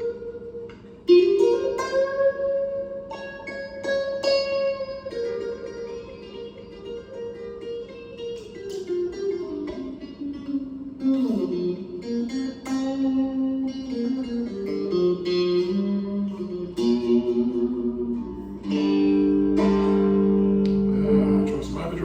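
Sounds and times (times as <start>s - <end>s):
electric guitar melody: 0.0s - 22.0s.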